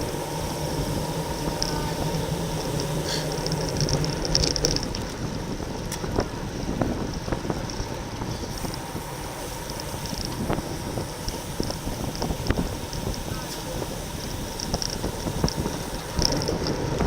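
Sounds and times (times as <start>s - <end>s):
bicycle clicks and knocks: 0.0s - 17.0s
wind rushing over microphone: 0.0s - 17.0s.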